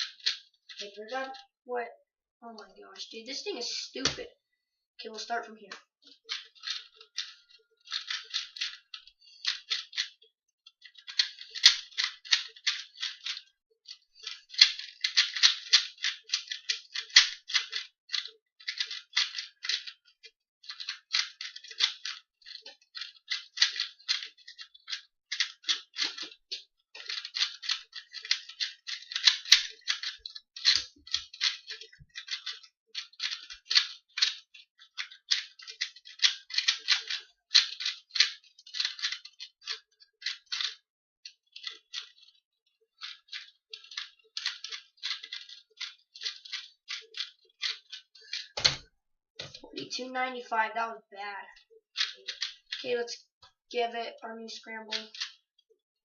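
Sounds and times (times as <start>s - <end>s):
puzzle cube turns clicking: 0.0s - 1.5s, 2.6s - 4.3s, 5.7s - 49.6s, 51.5s - 53.6s, 54.6s - 55.6s.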